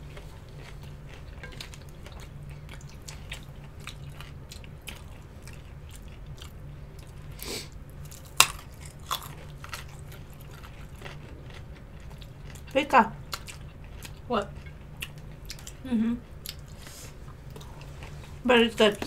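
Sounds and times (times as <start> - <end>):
chewing crispy chicken: 0.0 - 18.3.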